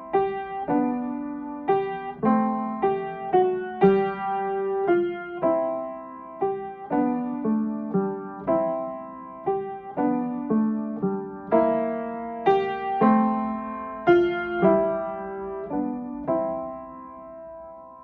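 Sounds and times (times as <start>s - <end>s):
piano melody with chords: 0.0s - 18.0s.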